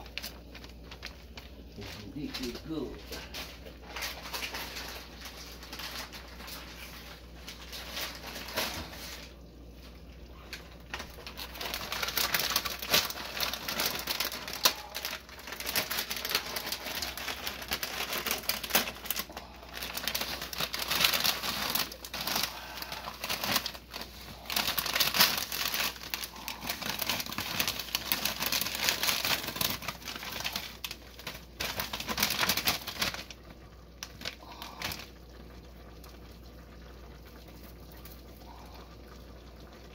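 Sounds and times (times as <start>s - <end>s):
plastic bag crinkling: 0.0s - 39.7s.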